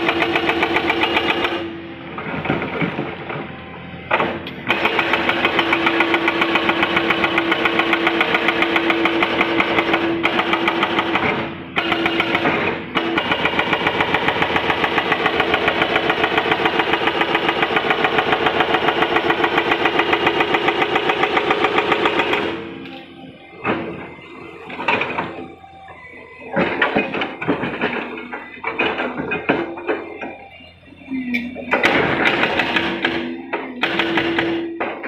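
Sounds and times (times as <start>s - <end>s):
hydraulic breaker hammering rock: 0.0s - 3.5s, 4.1s - 25.5s, 26.4s - 30.6s, 31.5s - 35.0s.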